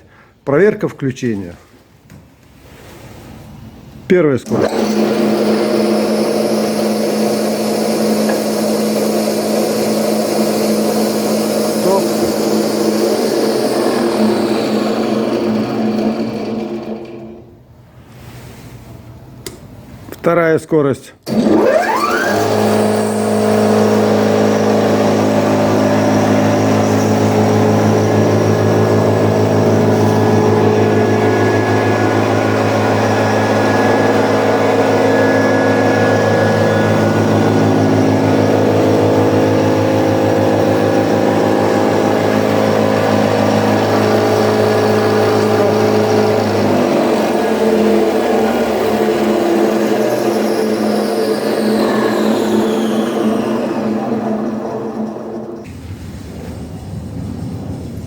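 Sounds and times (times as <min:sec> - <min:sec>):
milling machine motor hum: 0:04.5 - 0:17.4, 0:21.3 - 0:55.9
motor whine: 0:04.5 - 0:17.4, 0:21.3 - 0:58.0.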